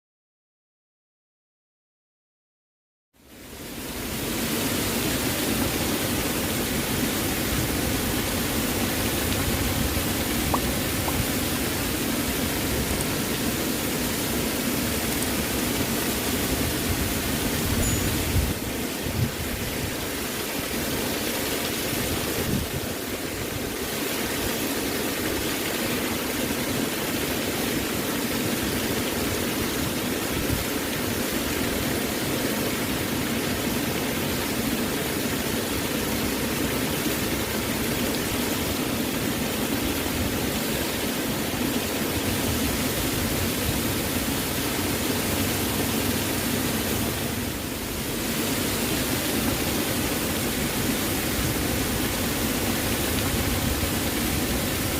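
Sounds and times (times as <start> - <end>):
waterfall rushing: 3.2 - 54.9.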